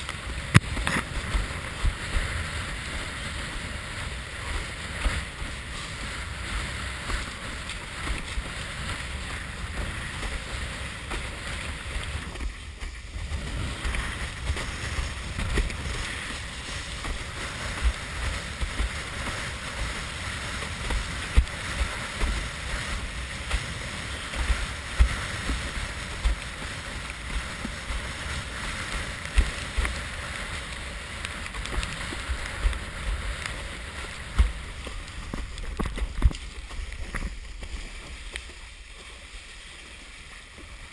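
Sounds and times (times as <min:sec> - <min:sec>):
wind buffeting microphone: 0:00.0 - 0:38.3
choppy water slapping a board: 0:00.0 - 0:40.9.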